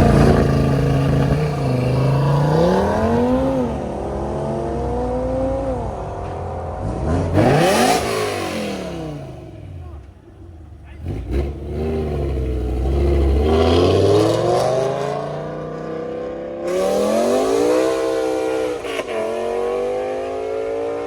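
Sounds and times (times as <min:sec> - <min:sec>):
car engine accelerating through gears: 0:00.0 - 0:09.7, 0:11.0 - 0:21.0.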